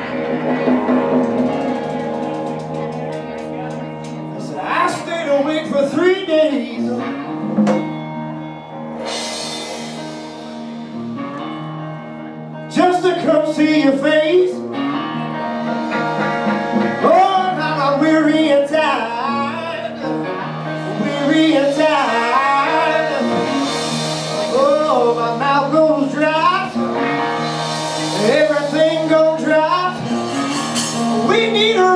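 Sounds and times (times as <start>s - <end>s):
blues band playing: 0.0s - 31.9s
lead guitar with bending notes: 0.0s - 31.9s.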